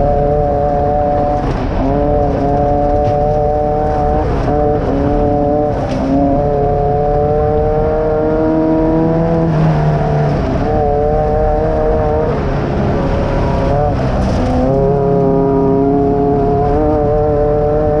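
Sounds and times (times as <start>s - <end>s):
buggy engine running hard: 0.0s - 18.0s.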